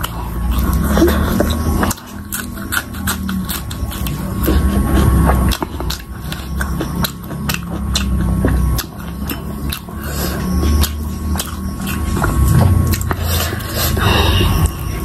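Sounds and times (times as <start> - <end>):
crunchy chewing: 0.0 - 15.0.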